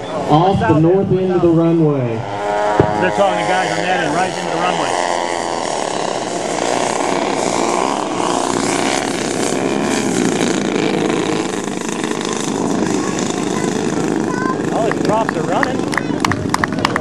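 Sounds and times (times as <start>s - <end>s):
propeller aircraft engines droning: 0.0s - 17.0s.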